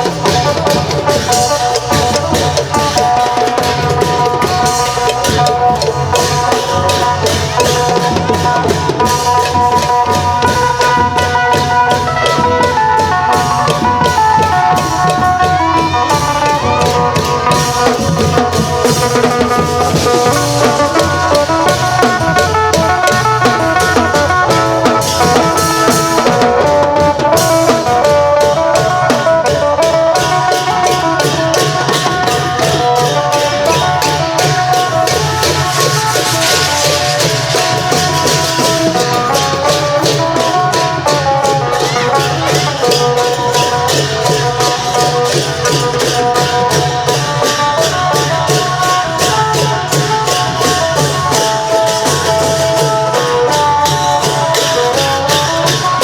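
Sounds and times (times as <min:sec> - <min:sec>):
drums: 0:00.0 - 0:56.0
hand percussion: 0:00.0 - 0:56.0.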